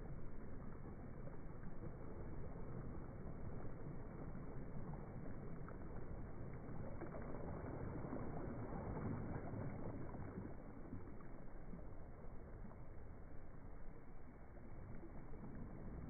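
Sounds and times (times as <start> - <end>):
small waves lapping on sandy shore: 0.0 - 16.0.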